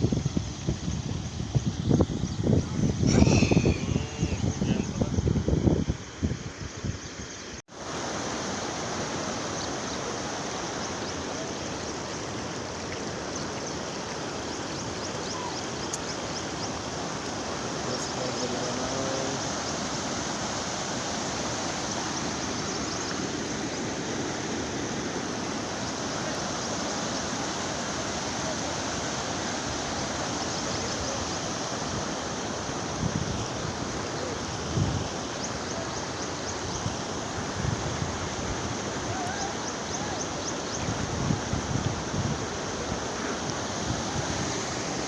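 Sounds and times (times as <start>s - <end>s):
floodwater rushing: 0.0s - 5.7s, 7.7s - 45.0s.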